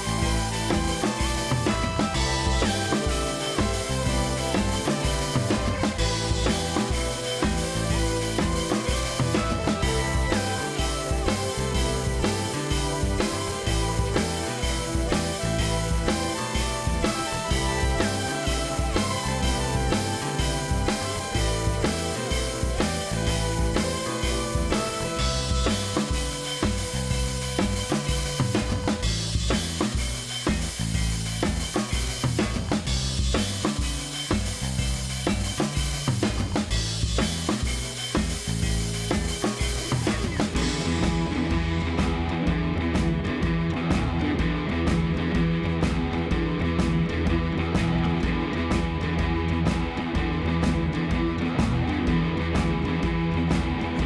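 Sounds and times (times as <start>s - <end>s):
drum-kit beat with bass line: 0.0s - 54.0s.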